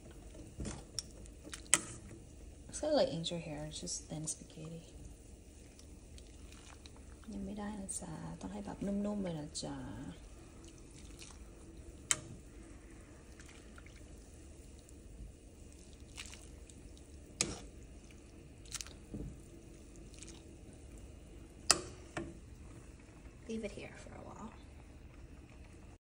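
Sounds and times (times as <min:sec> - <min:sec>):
water boiling in pot: 0:00.0 - 0:26.0.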